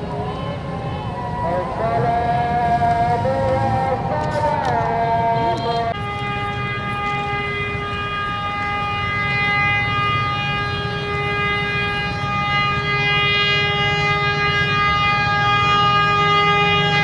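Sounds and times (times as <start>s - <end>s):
locomotive horn blast: 0.0s - 17.0s.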